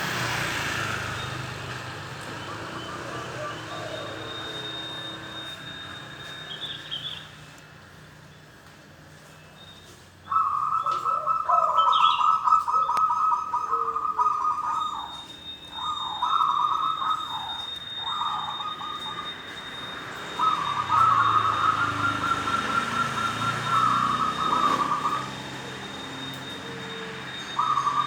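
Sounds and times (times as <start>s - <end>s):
dove trilled cooing: 2.3s - 7.3s, 10.3s - 28.0s.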